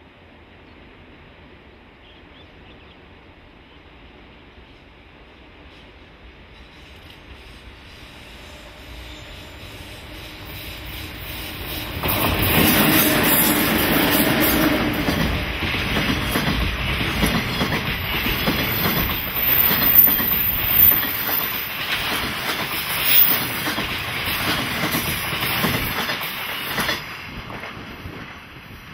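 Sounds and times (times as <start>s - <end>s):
freight train passing: 0.0s - 28.9s.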